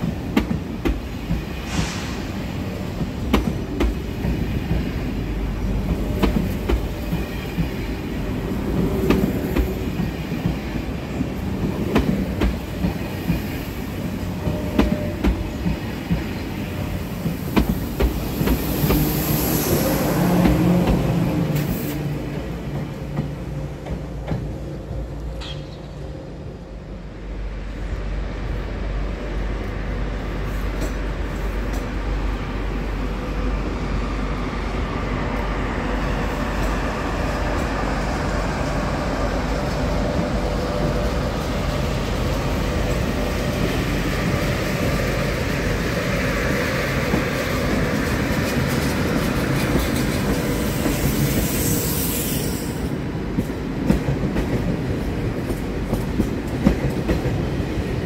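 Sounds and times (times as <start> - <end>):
train hiss and hum: 0.0 - 58.0
train rumble: 0.0 - 58.0.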